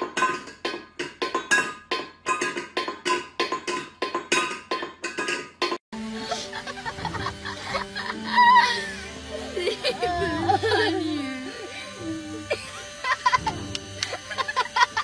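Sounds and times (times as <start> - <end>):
music with wood block notes: 0.0 - 15.0.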